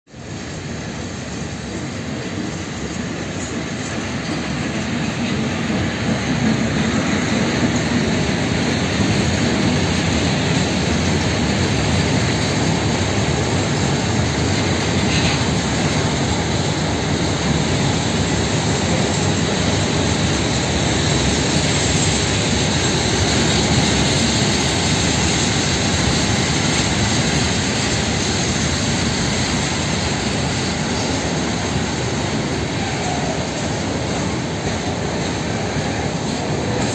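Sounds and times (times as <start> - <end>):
electric locomotive running past: 0.1 - 36.9
freight wagons rumbling on rails: 0.1 - 36.9.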